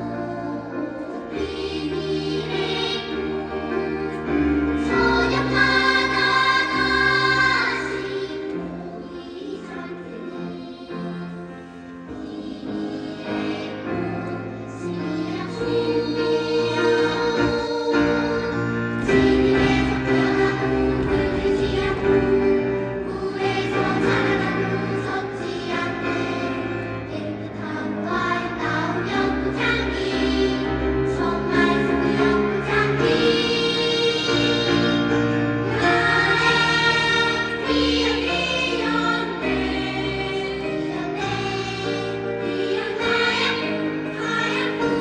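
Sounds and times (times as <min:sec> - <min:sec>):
children's choir singing: 0:00.0 - 0:45.0.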